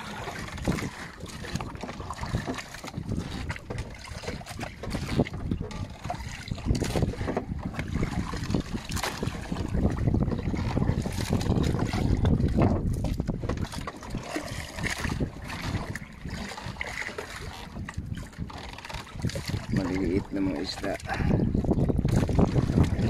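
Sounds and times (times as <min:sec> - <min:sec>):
water lapping and sloshing: 0:00.0 - 0:23.0
wind buffeting microphone: 0:00.0 - 0:23.0.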